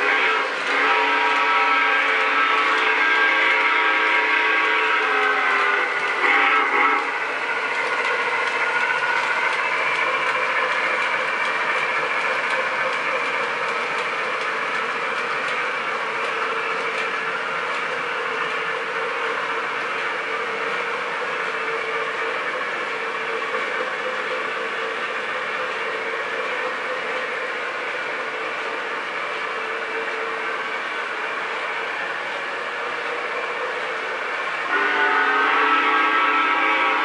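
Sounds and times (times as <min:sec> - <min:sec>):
model train rolling whir: 0:00.0 - 0:37.0.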